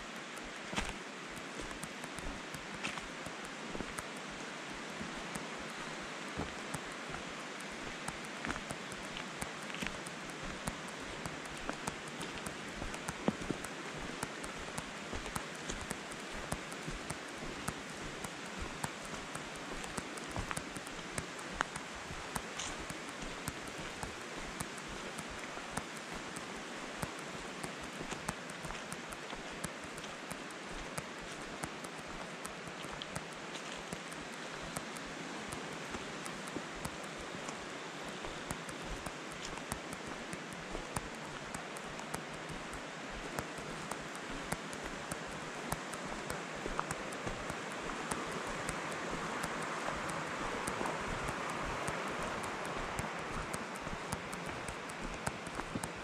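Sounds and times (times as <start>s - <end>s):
creek water rushing: 0.0s - 56.0s
small ticks: 0.0s - 56.0s.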